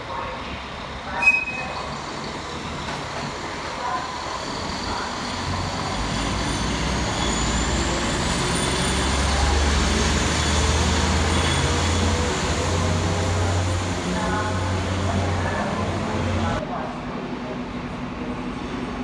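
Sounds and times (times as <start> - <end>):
diesel locomotive engine rumble: 0.0 - 19.0.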